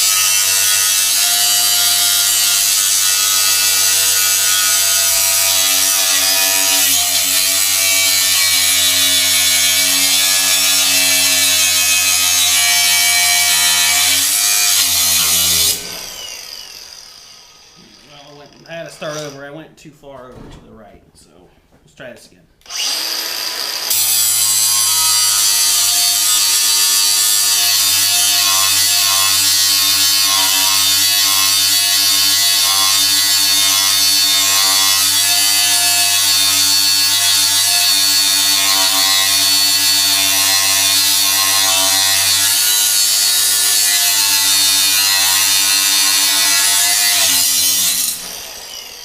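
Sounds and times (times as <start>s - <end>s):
angle grinder cutting steel: 0.0s - 19.4s, 22.6s - 49.0s.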